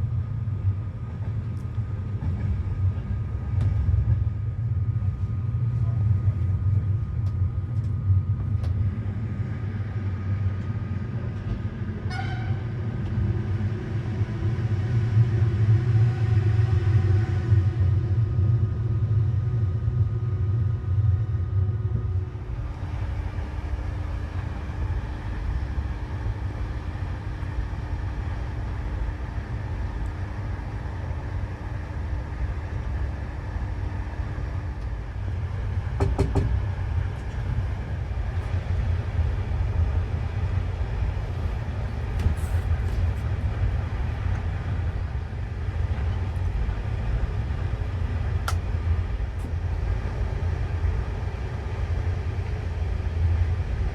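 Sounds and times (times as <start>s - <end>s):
train rumbling inside carriage: 0.0s - 53.9s.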